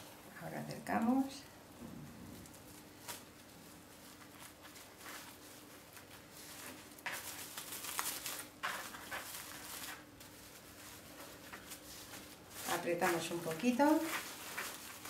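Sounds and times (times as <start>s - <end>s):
cling film crinkling: 1.9s - 15.0s.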